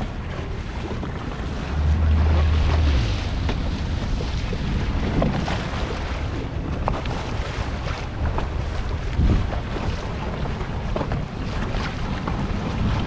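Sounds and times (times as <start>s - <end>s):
boat engine low rumble: 0.0s - 13.0s
water splashing: 0.0s - 13.0s
wind buffeting microphone: 0.0s - 13.0s.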